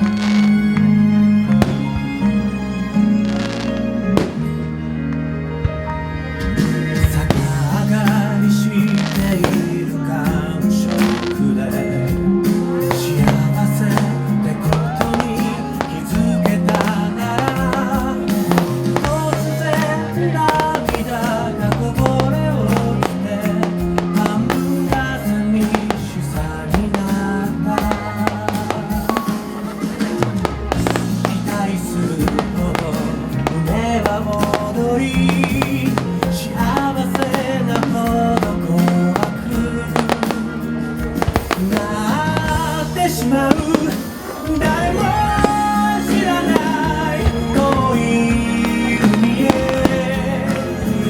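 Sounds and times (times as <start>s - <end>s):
fireworks bangs and cracks: 0.0s - 2.3s, 3.2s - 4.6s, 6.6s - 51.0s
pop song with guitar: 6.4s - 51.0s.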